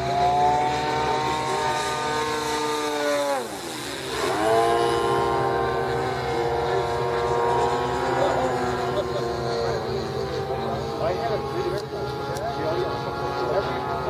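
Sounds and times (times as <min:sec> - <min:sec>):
model airplane motor droning: 0:00.0 - 0:14.0.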